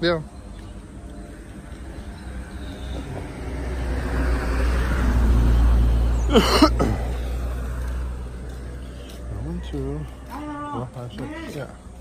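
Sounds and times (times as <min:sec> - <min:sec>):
vehicle passing by: 0:00.8 - 0:12.0.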